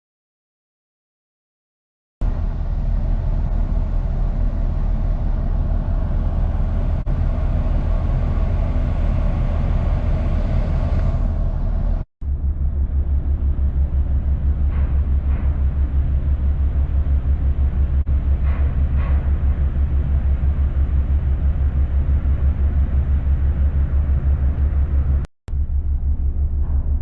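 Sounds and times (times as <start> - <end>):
ship engine throbbing: 2.2 - 27.0.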